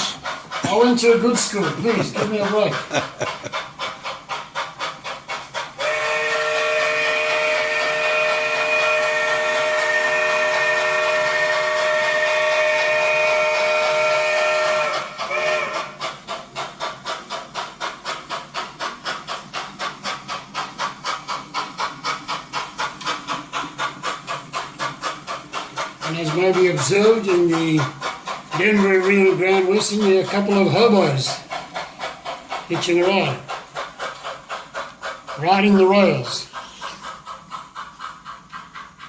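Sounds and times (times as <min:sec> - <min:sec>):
model steam locomotive chuffing: 0:00.0 - 0:39.0.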